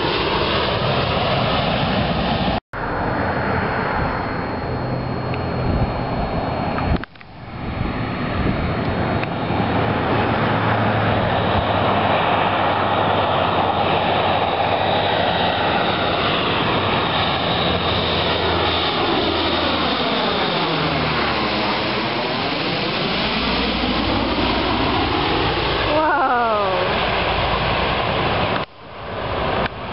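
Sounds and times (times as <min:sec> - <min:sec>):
propeller plane passing overhead: 0:00.0 - 0:29.9.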